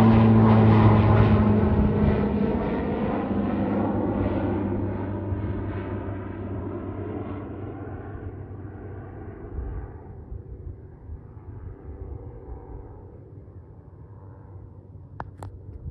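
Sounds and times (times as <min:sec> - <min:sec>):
turboprop plane climbing: 0:00.0 - 0:15.9.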